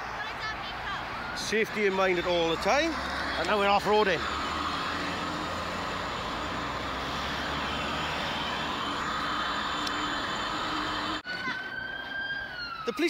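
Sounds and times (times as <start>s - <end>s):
high siren-like tone: 0.9s - 13.0s
electric motors whining: 1.2s - 12.8s.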